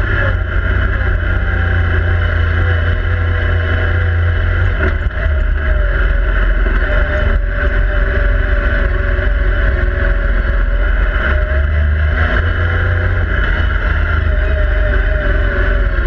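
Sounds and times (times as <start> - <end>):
engine rumbling from inside cab: 0.0 - 16.0.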